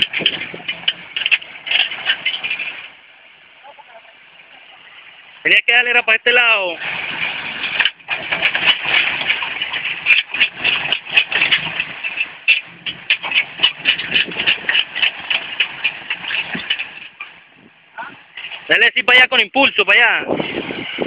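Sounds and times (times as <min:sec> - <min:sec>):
gravel and stones clattering: 0:00.0 - 0:05.5, 0:06.3 - 0:21.0
tyres spinning in loose dirt: 0:00.0 - 0:21.0
vehicle engine running under load: 0:00.0 - 0:21.0.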